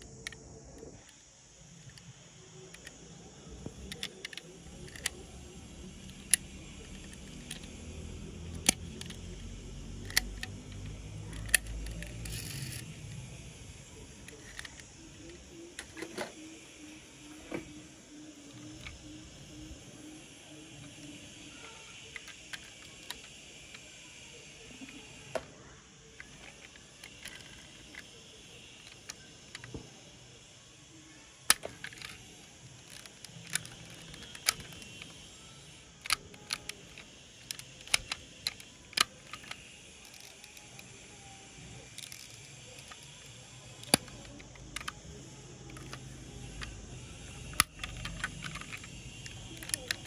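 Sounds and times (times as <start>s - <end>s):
toy doors clicking and snapping: 1.8s - 25.5s, 26.1s - 30.0s, 31.4s - 50.0s.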